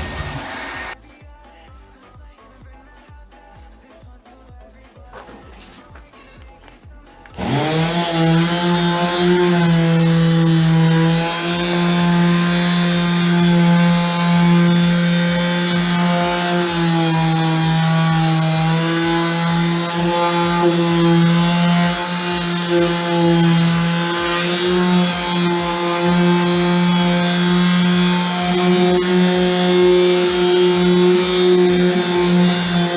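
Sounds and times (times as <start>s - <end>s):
electric sander on metal: 0.0s - 1.0s, 7.3s - 32.9s.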